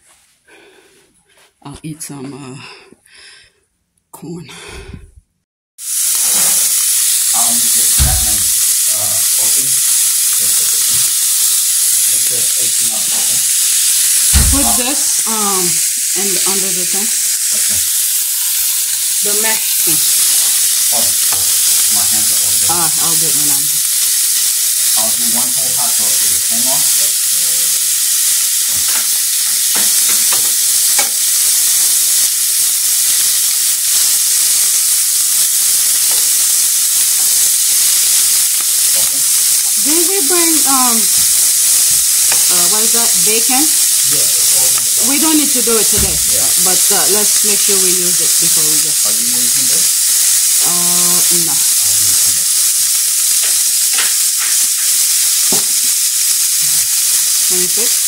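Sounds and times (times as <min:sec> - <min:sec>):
food sizzling in a pan: 0:05.8 - 0:58.0.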